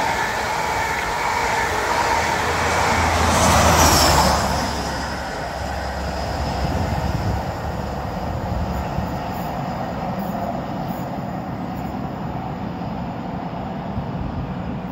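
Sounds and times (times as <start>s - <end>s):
diesel train rumbling on rails: 0.0s - 14.9s.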